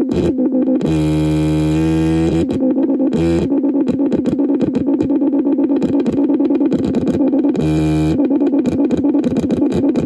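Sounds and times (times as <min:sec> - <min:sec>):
buzzy synthesizer drone: 0:00.0 - 0:10.0
steady synthesizer hum: 0:00.0 - 0:10.0
stuttering synthesizer crackle: 0:00.0 - 0:10.0.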